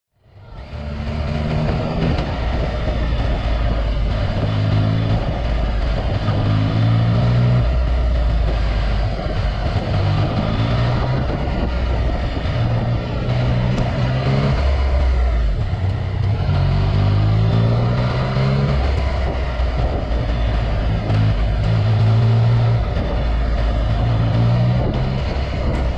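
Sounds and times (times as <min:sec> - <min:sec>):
motorcycle engine accelerating: 0:00.2 - 0:25.9.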